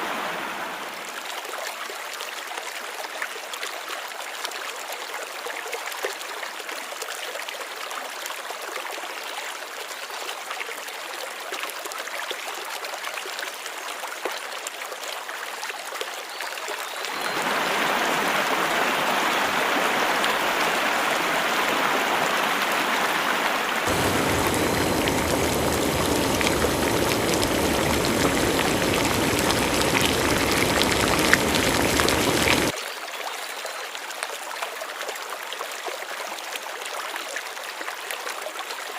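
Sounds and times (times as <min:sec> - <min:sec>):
stream water running over stones: 0:00.9 - 0:38.9.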